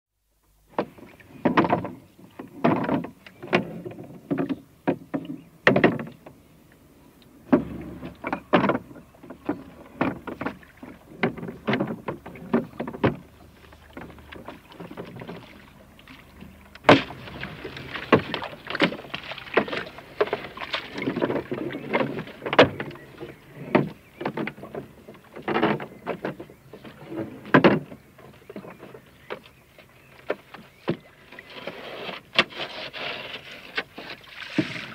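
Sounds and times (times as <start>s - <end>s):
knocks and thumps against boat hull: 0.7s - 6.4s, 7.4s - 31.2s.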